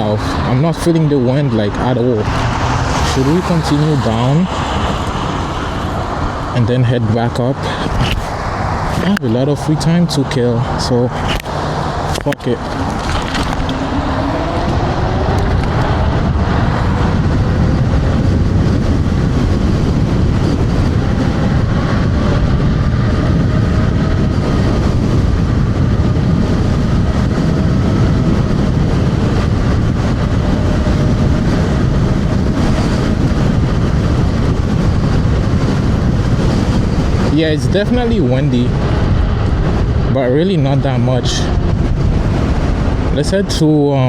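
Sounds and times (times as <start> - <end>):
road noise: 0.0 - 44.0
wind rushing over microphone: 0.0 - 44.0.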